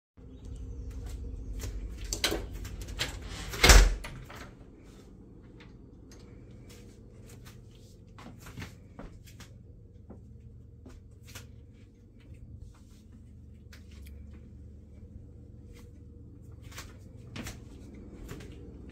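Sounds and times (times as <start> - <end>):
faint low hum: 0.2 - 18.9.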